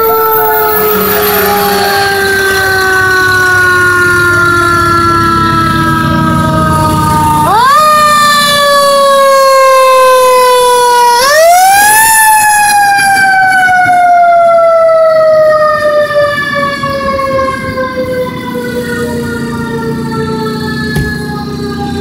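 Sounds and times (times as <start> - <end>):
fire truck siren wailing: 0.0 - 22.0.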